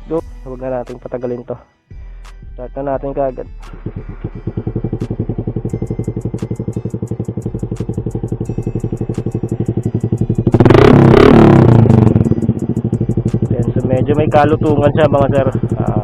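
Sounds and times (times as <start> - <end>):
motorcycle engine idling and revving: 3.0 - 16.0.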